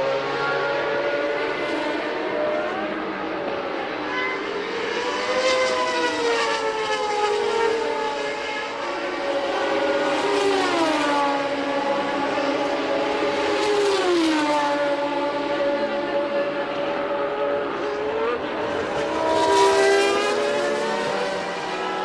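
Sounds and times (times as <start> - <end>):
racing car engines at high revs: 0.0 - 22.0.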